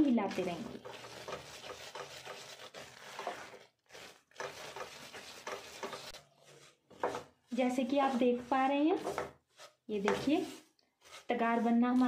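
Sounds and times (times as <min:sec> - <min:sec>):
spatula scraping syrup in pan: 0:00.0 - 0:12.0.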